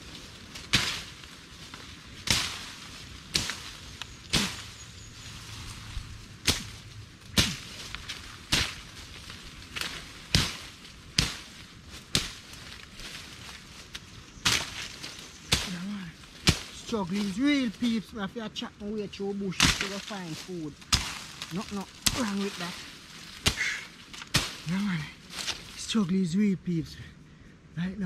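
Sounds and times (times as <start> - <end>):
machete slashing through bush: 0.1 - 18.0, 19.5 - 25.8.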